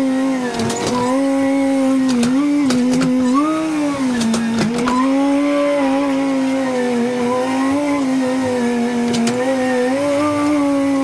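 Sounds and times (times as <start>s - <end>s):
engine running with whine: 0.0s - 11.0s.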